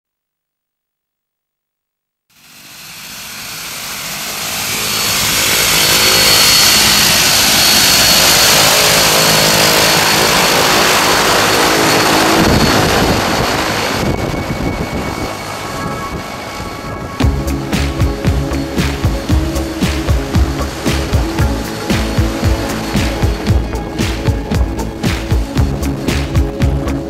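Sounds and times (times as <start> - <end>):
propeller plane engines running: 2.4 - 27.0.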